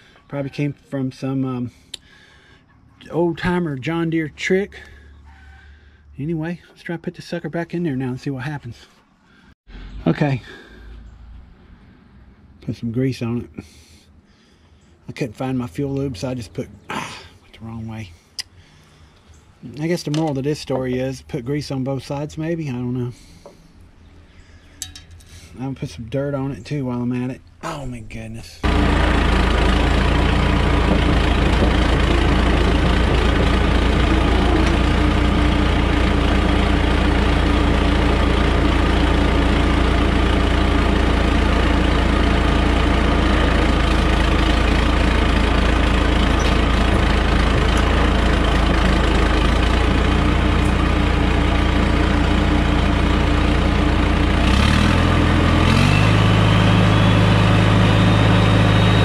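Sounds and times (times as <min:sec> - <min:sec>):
diesel engine idling: 0:00.0 - 0:28.0, 0:28.6 - 0:59.0.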